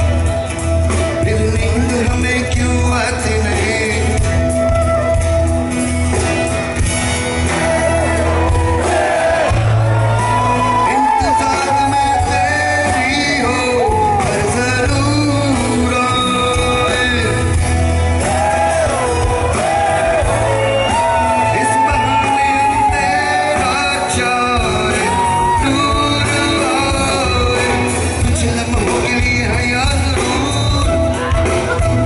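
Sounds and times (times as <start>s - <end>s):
man singing lead vocal: 0.0s - 5.2s, 10.5s - 32.0s
live band playing: 0.0s - 32.0s.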